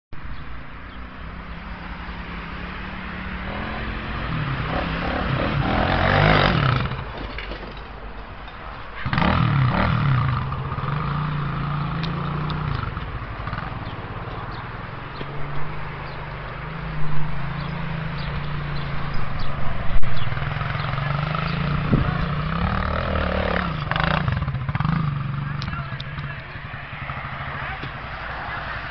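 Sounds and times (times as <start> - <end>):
atv engine revving: 0.9 - 7.3, 9.0 - 28.9.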